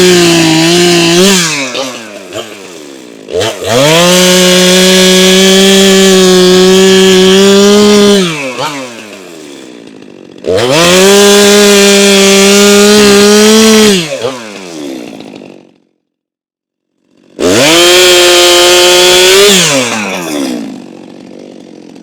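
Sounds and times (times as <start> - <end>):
chainsaw cutting log: 0.0 - 16.0, 17.0 - 22.0.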